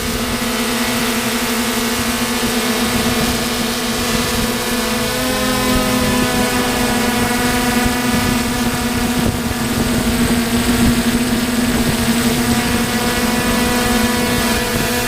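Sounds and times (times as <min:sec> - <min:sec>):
drone propellers humming: 0:00.0 - 0:15.0.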